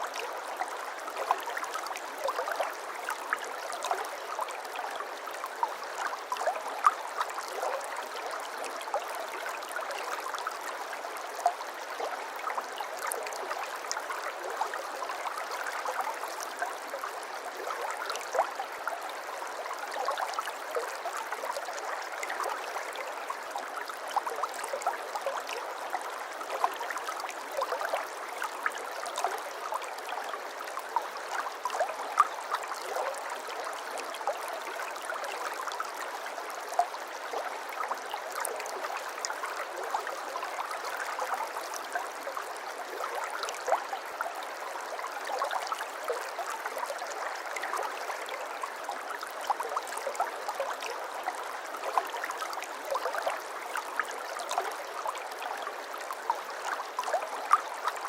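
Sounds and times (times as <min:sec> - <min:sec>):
stream water babbling: 0:00.0 - 0:58.0.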